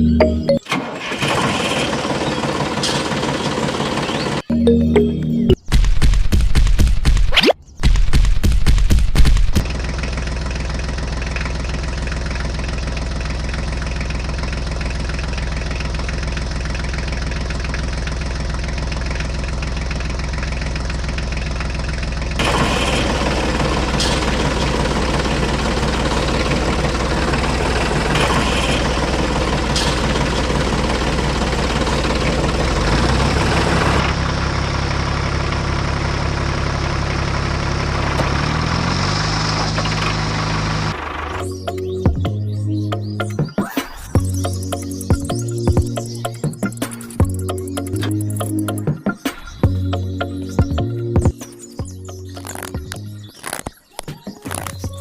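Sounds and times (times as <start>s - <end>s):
tractor engine running: 0.0s - 7.2s, 7.8s - 55.0s.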